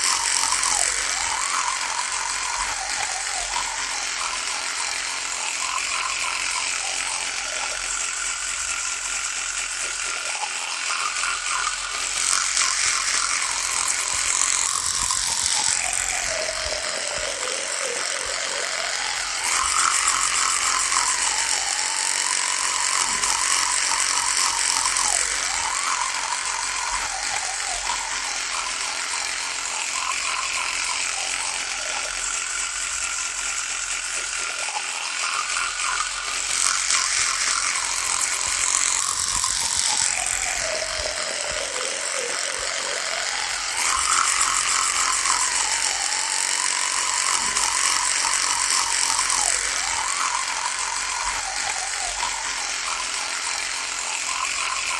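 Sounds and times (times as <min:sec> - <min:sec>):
electric toothbrush buzzing: 0:00.0 - 0:54.9.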